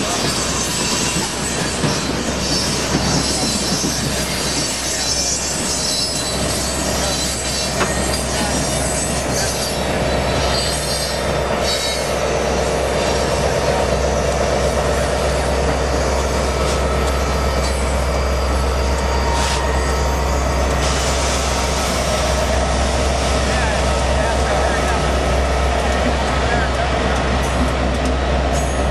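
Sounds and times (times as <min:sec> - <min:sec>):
steel wheels squealing on rails: 0:00.0 - 0:28.9
train low rumble: 0:00.0 - 0:28.9.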